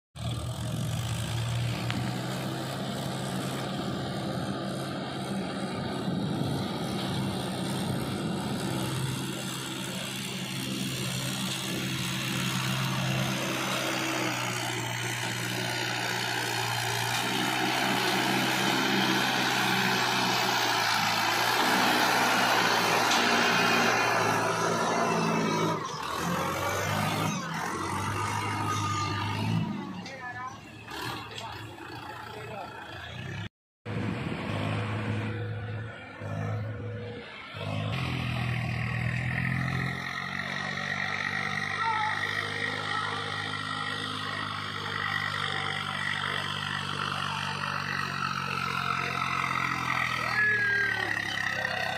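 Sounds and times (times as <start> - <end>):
tractor diesel engines running: 0.2 - 51.9.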